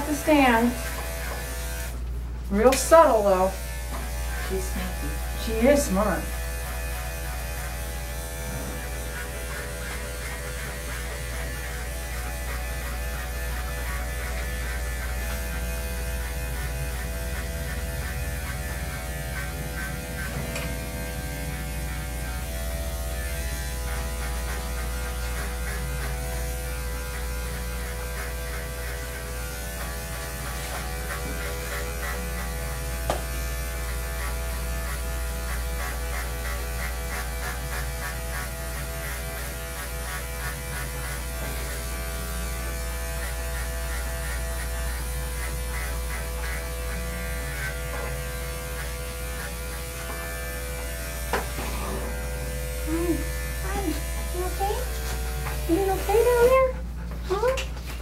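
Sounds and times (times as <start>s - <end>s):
electric clippers buzzing: 0.0s - 58.0s.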